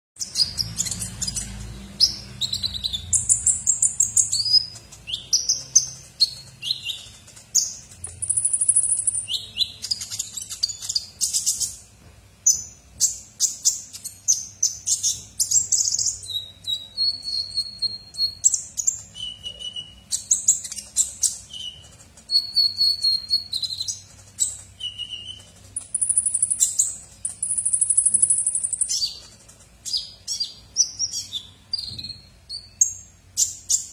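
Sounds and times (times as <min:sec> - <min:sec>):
sunbird singing: 0:00.2 - 0:11.8, 0:12.5 - 0:33.9.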